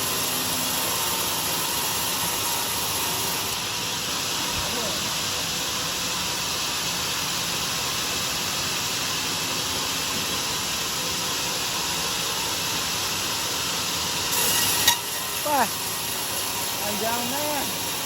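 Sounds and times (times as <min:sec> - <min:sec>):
sawmill running: 0:00.0 - 0:18.0.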